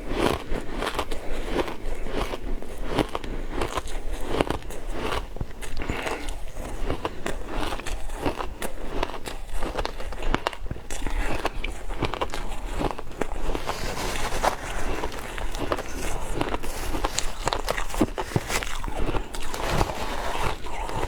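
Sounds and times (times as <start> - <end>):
ice being bitten and chewed: 0.0 - 21.0.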